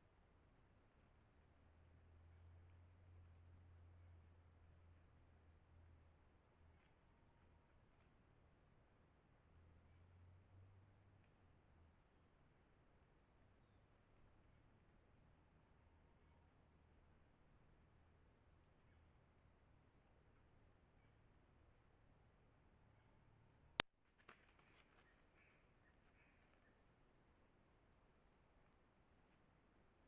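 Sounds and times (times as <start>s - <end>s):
soft insect chirp: 0.0s - 30.0s.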